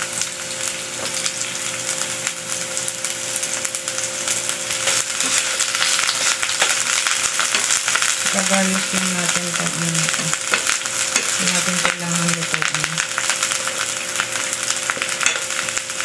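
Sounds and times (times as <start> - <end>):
onions sizzling in hot oil: 0.0 - 16.0
utensil stirring onions: 0.1 - 16.0.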